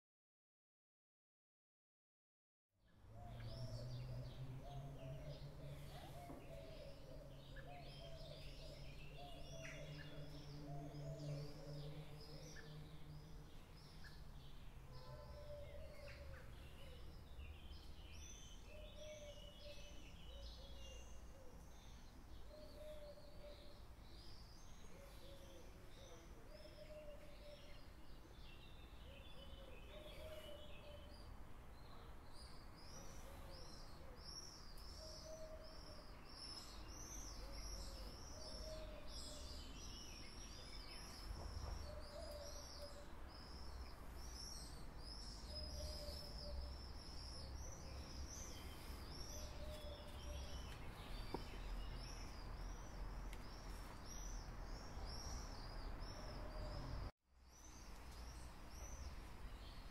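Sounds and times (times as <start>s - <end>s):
birds chirping and singing: 3.2s - 59.9s.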